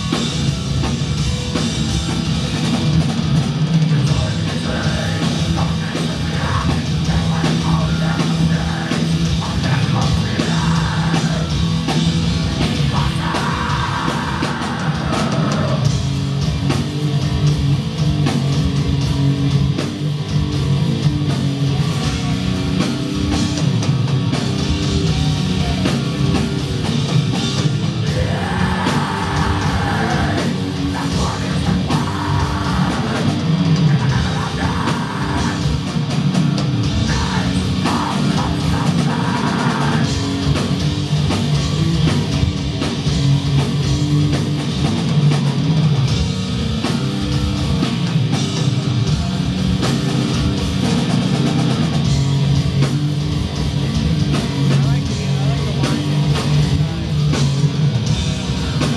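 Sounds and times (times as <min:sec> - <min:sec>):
harsh vocals: 0:00.0 - 0:17.5, 0:21.6 - 0:58.9
distorted electric guitars: 0:00.0 - 0:58.9
drums: 0:00.0 - 0:58.9.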